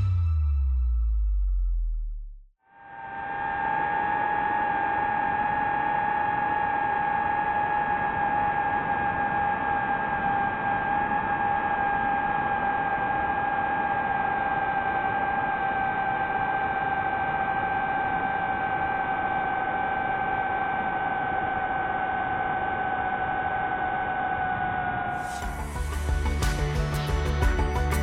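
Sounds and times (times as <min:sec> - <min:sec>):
drone propellers whining: 0:02.8 - 0:28.0.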